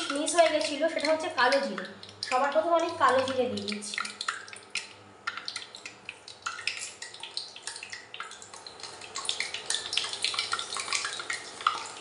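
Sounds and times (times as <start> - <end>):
oil sizzling: 0.0 - 12.0
seeds popping in hot oil: 0.0 - 12.0.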